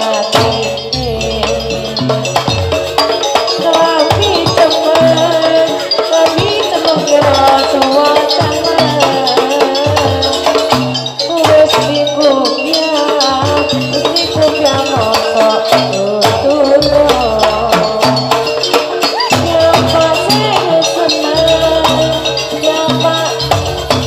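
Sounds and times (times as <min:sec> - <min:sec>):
drums and rattling percussion: 0:00.0 - 0:24.0
wavering melody line: 0:00.0 - 0:24.0.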